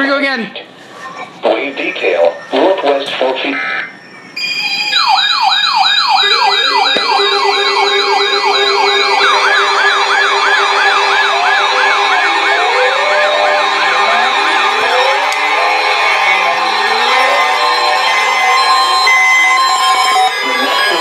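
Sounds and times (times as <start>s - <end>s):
emergency vehicle sirens yelping: 1.0s - 21.0s
lower falling siren sweeps: 3.8s - 21.0s.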